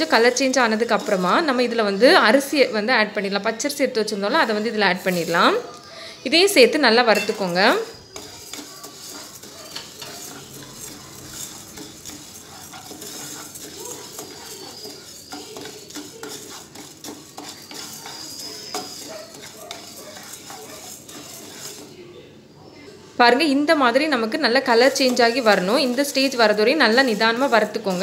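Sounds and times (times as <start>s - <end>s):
dry grains stirred in a pan: 0.0s - 22.2s, 23.8s - 28.0s.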